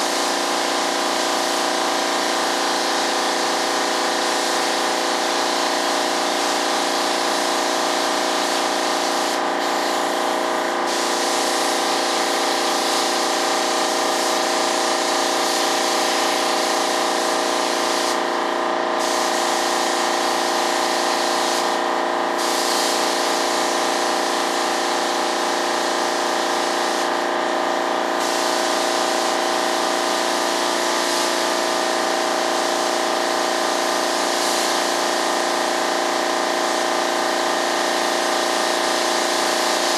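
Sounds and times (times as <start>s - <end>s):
air compressor running: 0.0s - 39.9s
spray gun hissing: 0.0s - 39.9s.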